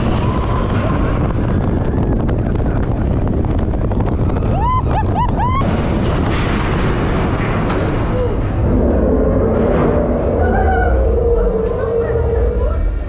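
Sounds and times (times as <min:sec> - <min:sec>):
roller coaster rumble: 0:00.0 - 0:13.0
wind buffeting microphone: 0:00.0 - 0:13.0.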